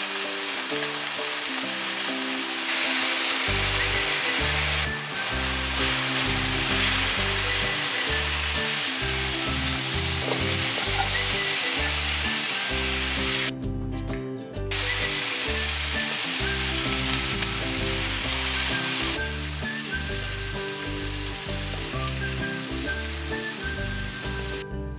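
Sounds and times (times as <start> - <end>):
steak sizzling in oil: 0.0 - 13.5, 14.7 - 24.6
background music: 0.0 - 24.9.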